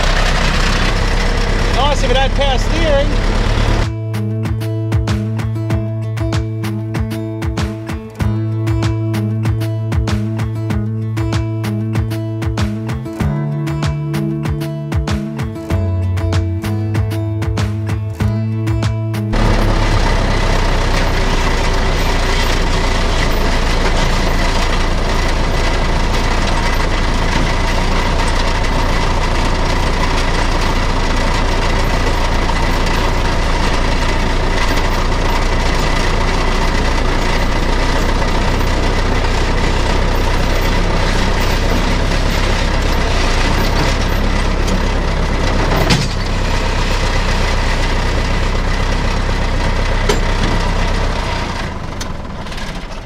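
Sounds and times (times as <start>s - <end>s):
tractor diesel engine running: 0.0s - 18.4s, 19.2s - 53.0s.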